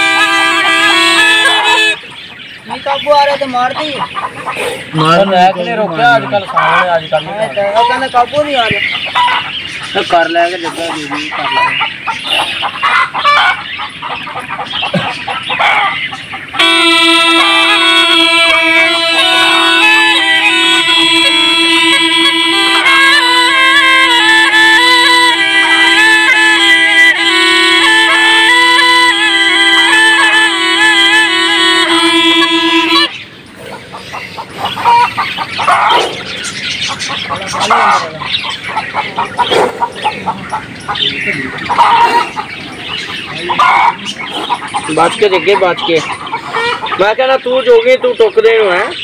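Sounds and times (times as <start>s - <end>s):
chickens clucking: 0.0s - 49.0s
loud bird calls: 0.0s - 49.0s
reedy pungi drone and melody: 0.0s - 49.0s.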